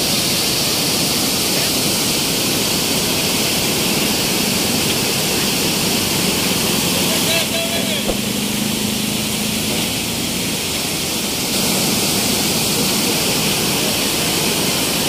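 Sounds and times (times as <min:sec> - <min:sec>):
floodwater pouring over a weir: 0:00.0 - 0:15.0.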